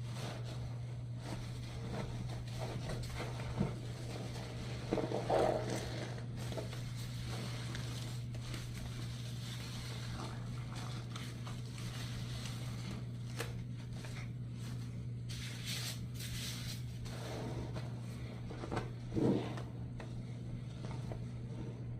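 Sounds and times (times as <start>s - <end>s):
sponge squishing: 0.0s - 21.9s
steady low hum: 0.0s - 21.9s.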